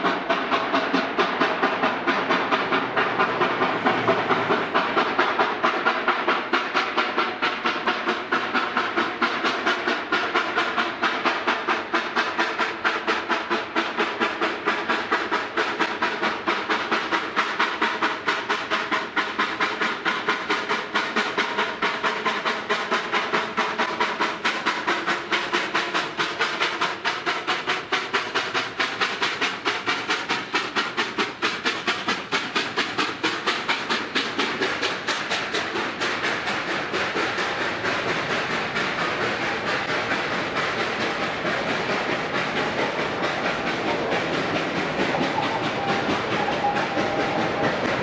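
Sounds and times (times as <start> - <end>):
steam hissing: 0.0 - 48.0
steam locomotive chuffing: 0.0 - 48.0.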